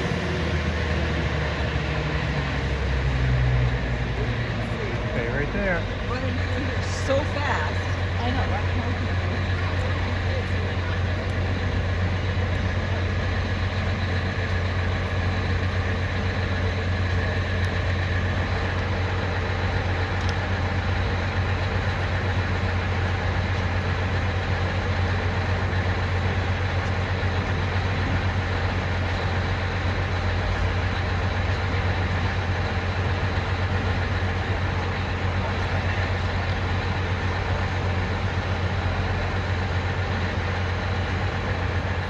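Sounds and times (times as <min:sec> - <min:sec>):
train engine drone: 0:00.0 - 0:42.0.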